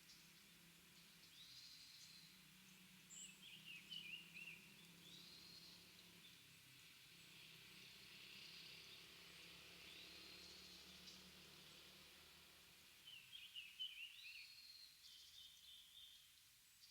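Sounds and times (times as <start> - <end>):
small birds chirping: 0.0 - 12.2, 12.9 - 16.9.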